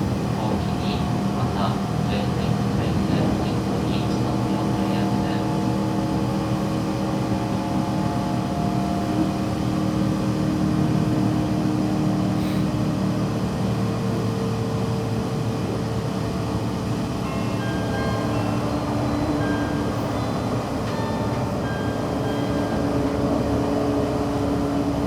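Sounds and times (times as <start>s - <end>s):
train motor and gear hum: 0.0s - 25.0s
wheel and rail rumble: 0.0s - 25.0s.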